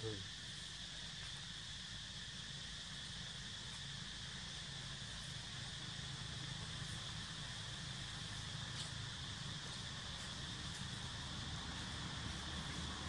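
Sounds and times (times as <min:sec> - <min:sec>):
insect drone: 0:00.0 - 0:13.0
low steady rumble: 0:00.0 - 0:13.0.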